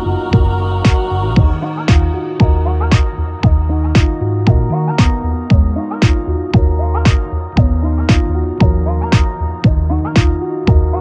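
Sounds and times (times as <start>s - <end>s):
drum beat: 0.0s - 10.9s
sustained bass line: 0.0s - 11.0s.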